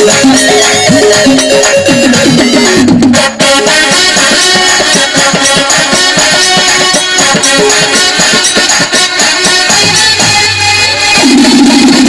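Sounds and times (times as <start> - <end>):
quick even drum beat: 0.0 - 12.0.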